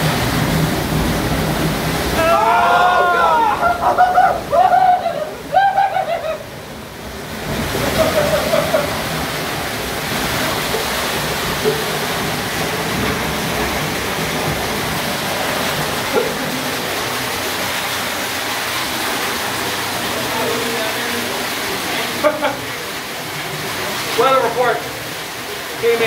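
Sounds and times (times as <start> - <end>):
floodwater rushing through cave: 0.0 - 26.0.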